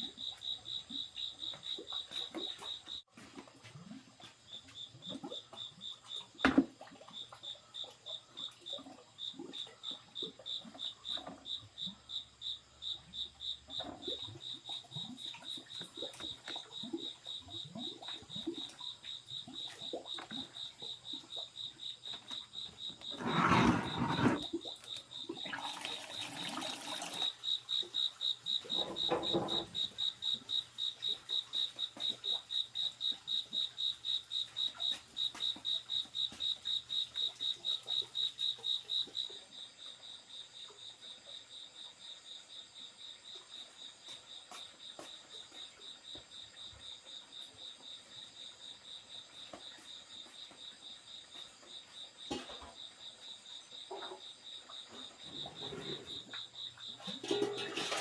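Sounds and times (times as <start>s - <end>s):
insect chirping: 0.0s - 3.1s, 3.7s - 58.0s.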